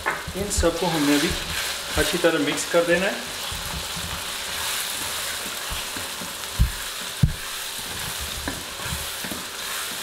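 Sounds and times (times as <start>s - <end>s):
food sizzling in hot oil: 0.0s - 10.0s
wooden spatula stirring: 0.0s - 10.0s.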